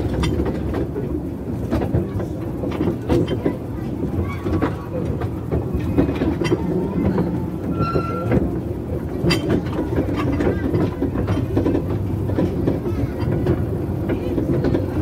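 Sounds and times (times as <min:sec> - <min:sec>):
train carriage rumbling on track: 0:00.0 - 0:15.0
wheels and couplings clanking: 0:00.0 - 0:15.0.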